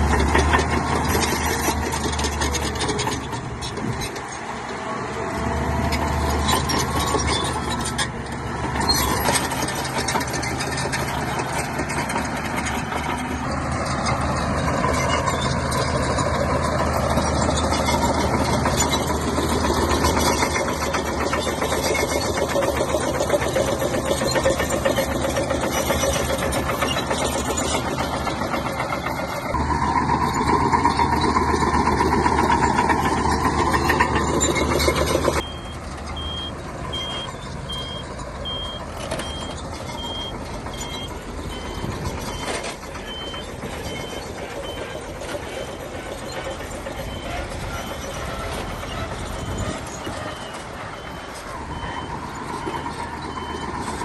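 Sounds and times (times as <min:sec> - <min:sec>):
bulldozer diesel engine clattering: 0:00.0 - 0:54.0.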